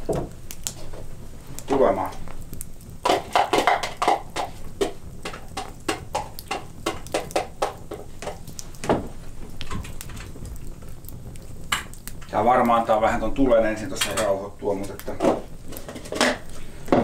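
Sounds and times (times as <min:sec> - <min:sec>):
food frying in a pan: 0:00.0 - 0:17.0
wood fire crackling: 0:00.0 - 0:17.0.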